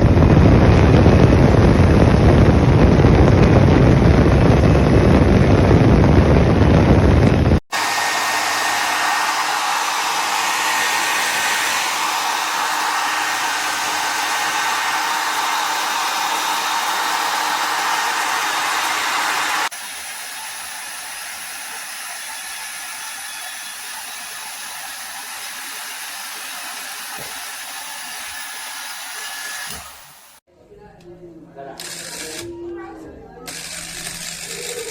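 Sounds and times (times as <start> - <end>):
hair dryer blowing: 0.0 - 30.4.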